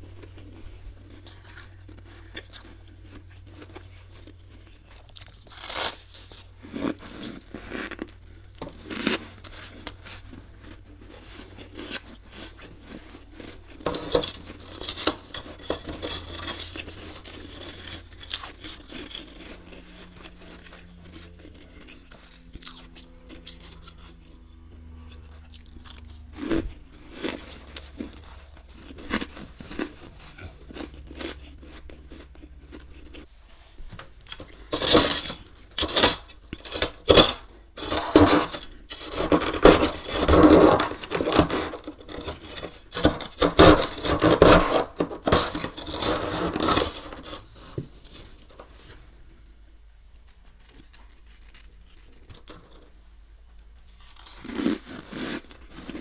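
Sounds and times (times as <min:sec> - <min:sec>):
metal spoon scraping frost: 0:00.0 - 0:32.2, 0:34.3 - 0:49.0, 0:50.3 - 0:52.9.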